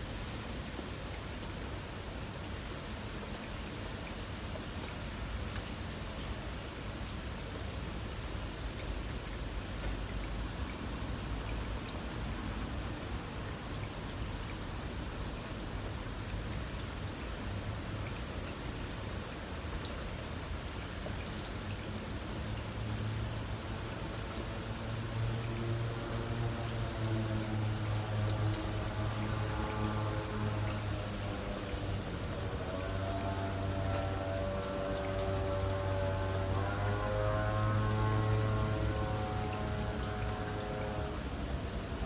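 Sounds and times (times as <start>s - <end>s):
faint high insect trill: 0.0s - 42.0s
light rain falling: 0.0s - 42.0s.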